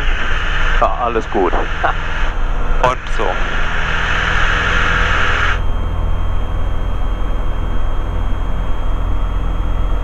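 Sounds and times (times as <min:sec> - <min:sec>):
propeller aircraft engine drone: 0:00.0 - 0:10.0.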